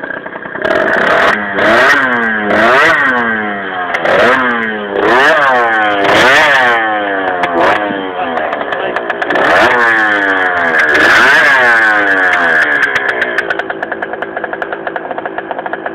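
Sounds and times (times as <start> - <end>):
scooter engine idling: 0.0 - 15.9
scooter engine revving: 0.0 - 15.9.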